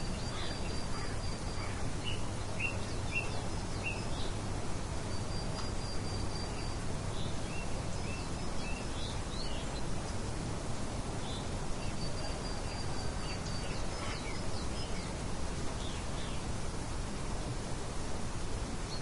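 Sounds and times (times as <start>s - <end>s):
soft wind hiss: 0.0s - 19.0s.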